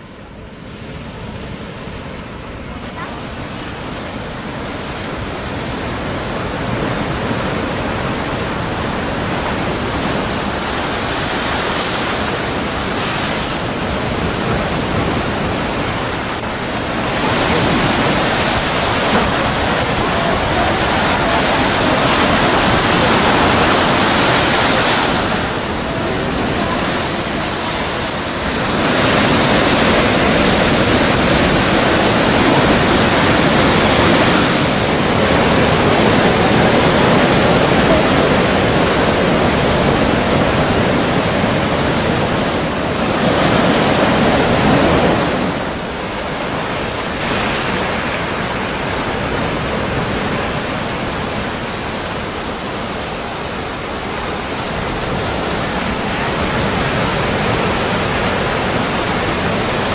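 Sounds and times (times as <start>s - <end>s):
strong wind: 0.0s - 59.9s
surf: 0.0s - 59.9s.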